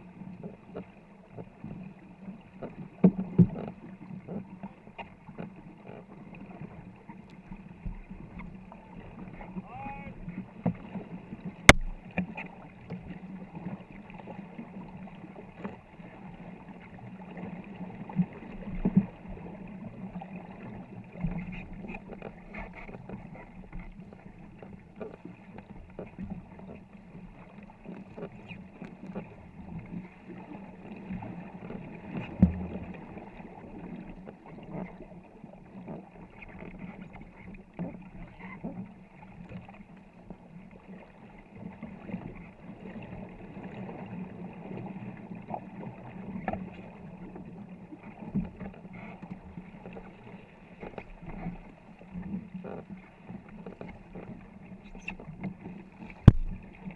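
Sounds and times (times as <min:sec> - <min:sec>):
water washing along boat: 0:00.0 - 0:56.9
hollow knocks of paddles on hull: 0:00.1 - 0:56.9
paddles splashing: 0:00.5 - 0:56.9.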